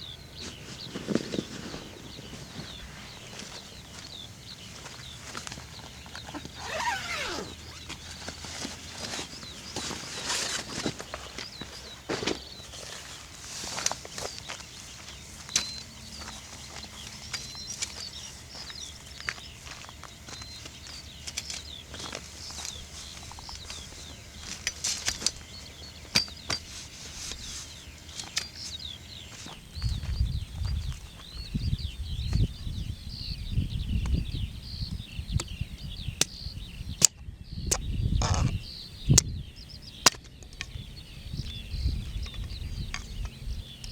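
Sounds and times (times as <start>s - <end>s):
small bird chirping: 0.0s - 43.9s.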